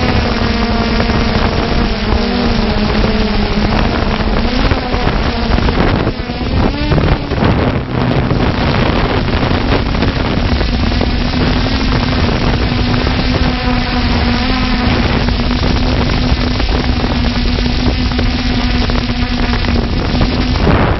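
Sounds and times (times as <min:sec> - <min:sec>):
drone propellers humming: 0:00.0 - 0:20.9
wind buffeting microphone: 0:00.0 - 0:20.9.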